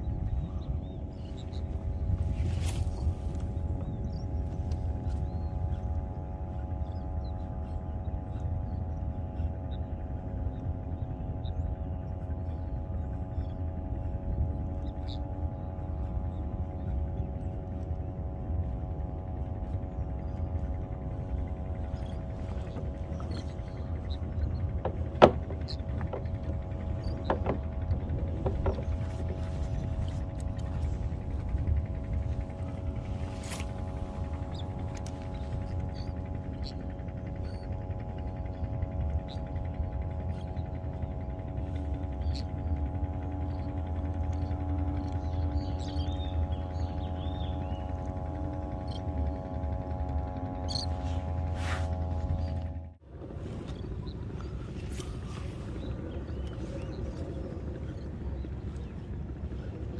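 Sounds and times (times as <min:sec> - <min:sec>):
faint hum: 0:00.0 - 0:59.9
wind and sea rumble: 0:00.0 - 0:59.9.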